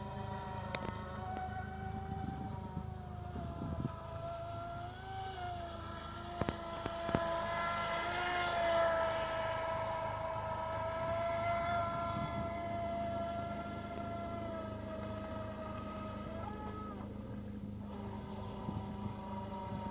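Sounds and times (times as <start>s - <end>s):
rc boat motor whine: 0.0s - 19.9s.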